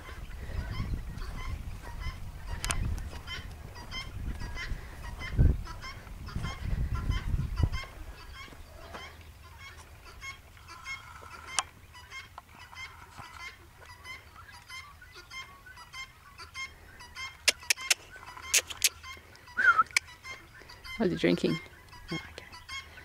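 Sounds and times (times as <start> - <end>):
flock of birds calling: 0.0 - 23.0.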